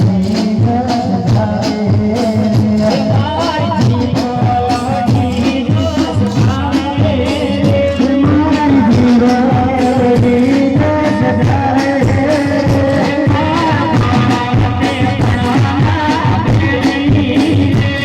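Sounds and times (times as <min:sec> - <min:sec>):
devotional folk music: 0:00.0 - 0:18.0
person singing: 0:00.0 - 0:18.0.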